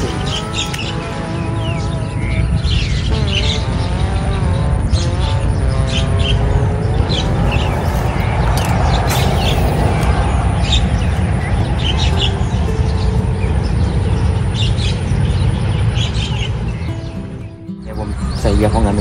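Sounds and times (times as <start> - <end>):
small birds chirping: 0.0 - 4.4, 5.0 - 19.0
loud steady low rumble: 0.0 - 16.9.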